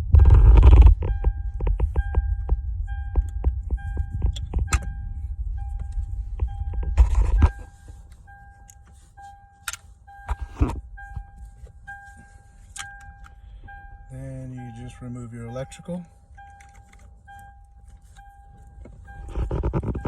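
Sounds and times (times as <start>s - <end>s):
car warning chime beeping: 0.0s - 20.0s
low rumble: 0.0s - 20.0s.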